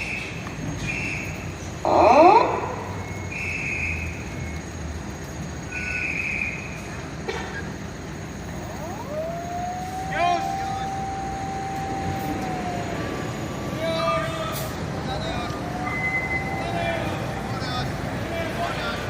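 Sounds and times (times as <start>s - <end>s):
beeping alarm: 0.8s - 19.0s
fire engine siren: 1.8s - 7.0s, 8.0s - 19.0s.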